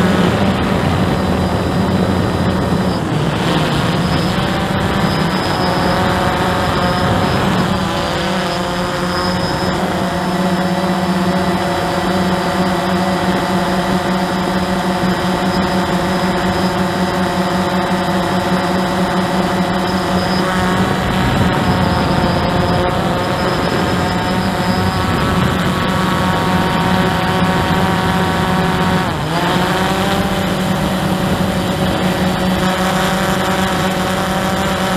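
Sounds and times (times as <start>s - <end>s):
drone motors and propellers: 0.0s - 34.9s.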